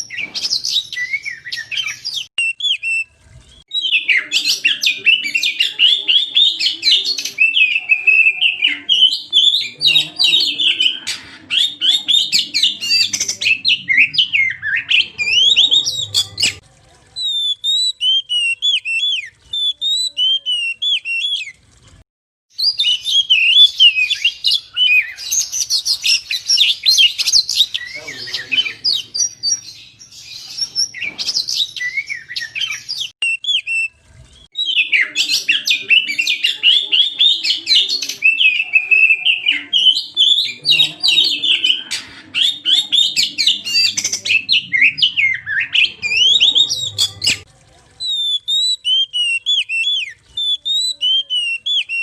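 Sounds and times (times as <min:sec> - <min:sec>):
bird singing whistles and chirps: 0:00.0 - 0:16.6, 0:17.2 - 0:21.6, 0:22.6 - 0:47.4, 0:48.0 - 0:52.0.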